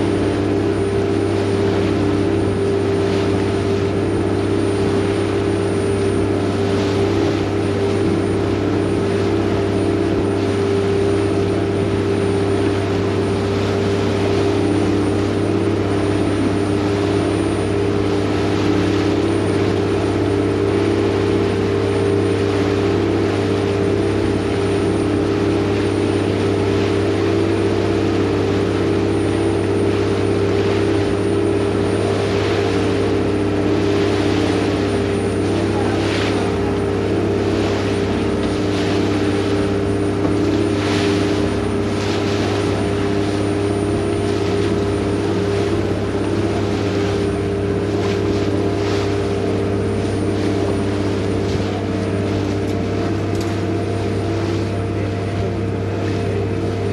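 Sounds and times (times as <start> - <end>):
boat diesel engine droning: 0.0 - 56.9.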